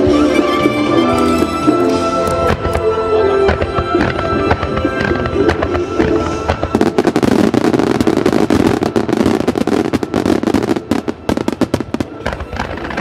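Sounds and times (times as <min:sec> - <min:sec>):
firework bursts and crackling: 0:00.0 - 0:13.0
music: 0:00.0 - 0:13.0.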